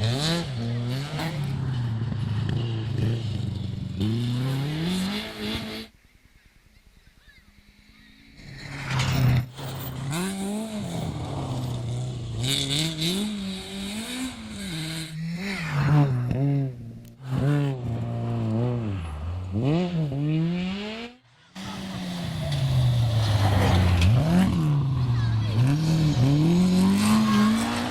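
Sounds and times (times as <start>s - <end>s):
rally car engines revving: 0.0s - 6.0s, 7.6s - 27.9s.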